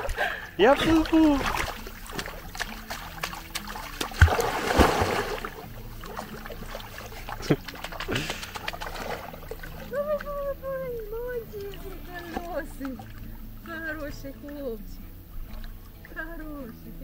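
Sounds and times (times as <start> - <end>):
dog splashing in water: 0.0 - 17.0.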